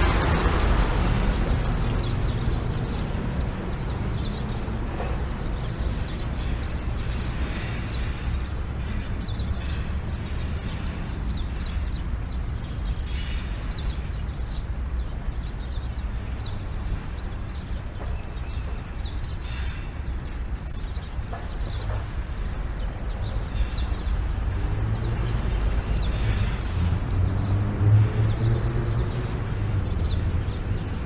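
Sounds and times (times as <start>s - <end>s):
small birds chirping: 0.0s - 31.0s
traffic rumble: 0.0s - 31.0s.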